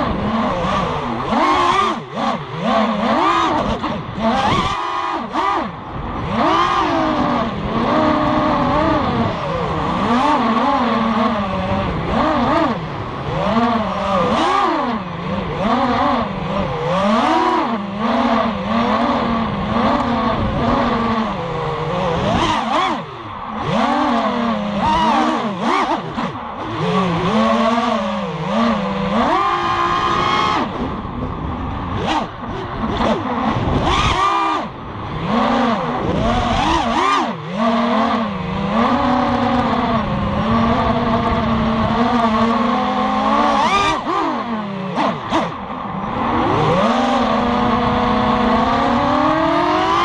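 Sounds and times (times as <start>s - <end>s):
quadcopter motors whining: 0.0s - 31.3s, 31.9s - 45.6s.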